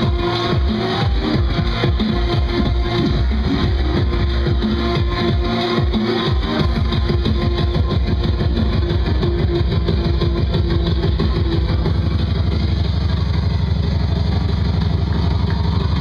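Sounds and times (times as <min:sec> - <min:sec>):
electronic dance music: 0:00.0 - 0:16.0.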